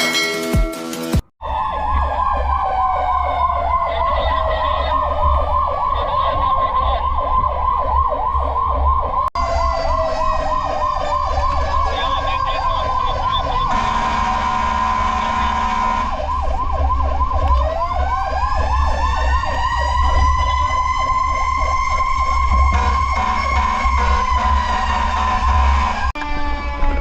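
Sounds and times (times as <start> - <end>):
wailing siren: 1.4 - 27.0
warbling siren: 1.4 - 27.0.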